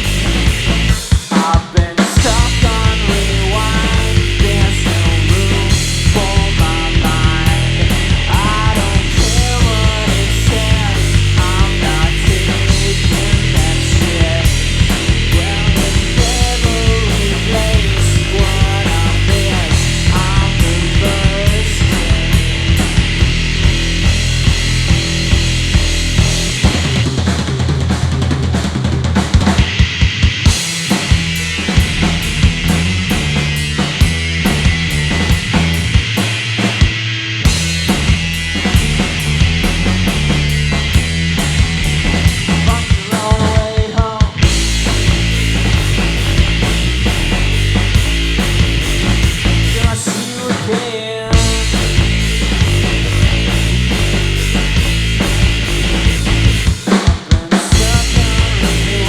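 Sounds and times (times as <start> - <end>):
bass guitar: 0.0 - 1.3, 2.1 - 50.1, 51.2 - 59.0
drum kit: 0.0 - 59.0
electric guitar lead: 2.2 - 27.1, 29.7 - 43.1, 44.4 - 49.8, 51.3 - 56.9, 57.7 - 59.0.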